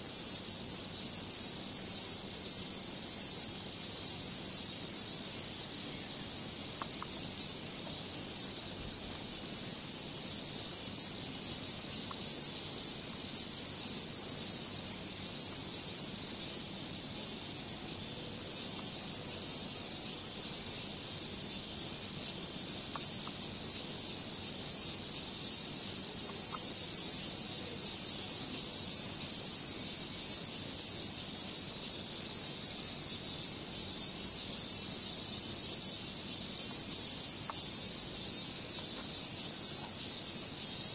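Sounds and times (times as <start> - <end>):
cicadas chorus: 0.0 - 40.9.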